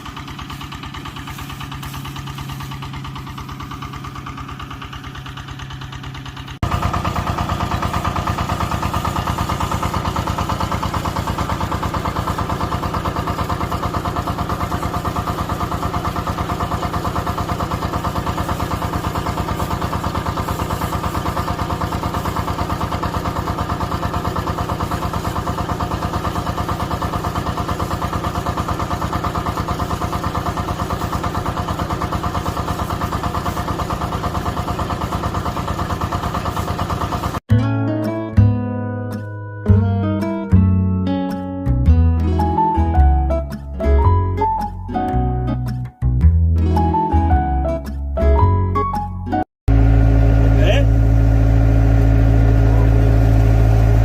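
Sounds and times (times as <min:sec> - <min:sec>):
diesel engine running: 0:00.0 - 0:37.6, 0:42.2 - 0:48.6, 0:49.7 - 0:54.0.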